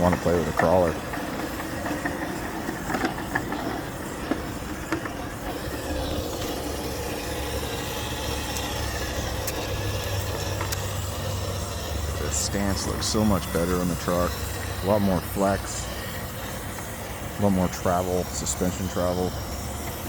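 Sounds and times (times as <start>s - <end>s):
highway traffic rumble: 0.0s - 20.0s.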